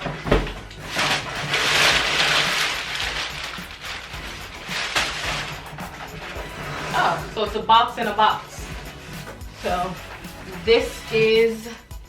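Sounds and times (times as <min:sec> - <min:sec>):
scraping and rustling cardboard: 0:00.0 - 0:11.7.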